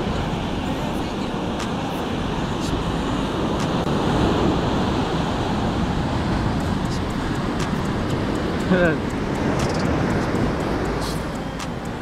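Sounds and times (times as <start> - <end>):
waves breaking on a beach: 0.0 - 12.0
wind buffeting microphone: 0.0 - 12.0.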